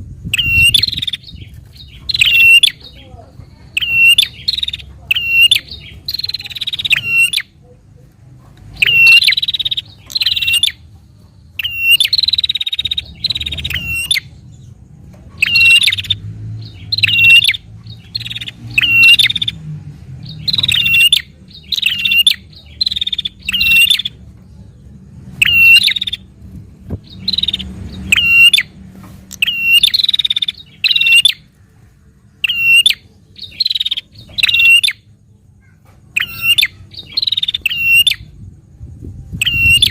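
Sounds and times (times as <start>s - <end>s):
bird chattering calls: 0.2s - 7.6s, 8.6s - 10.9s, 11.5s - 14.8s, 15.4s - 19.6s, 20.2s - 24.3s, 25.3s - 31.6s, 32.3s - 38.4s, 39.3s - 39.9s.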